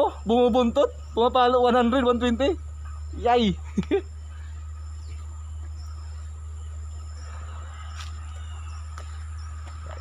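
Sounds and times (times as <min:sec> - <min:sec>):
constant low hum: 0:00.0 - 0:10.0
small birds chirping: 0:00.0 - 0:10.0.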